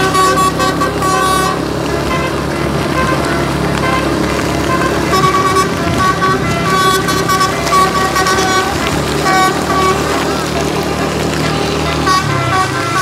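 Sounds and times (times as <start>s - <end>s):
bus horn tooting tune: 0.0s - 13.0s
low engine rumble: 0.0s - 13.0s.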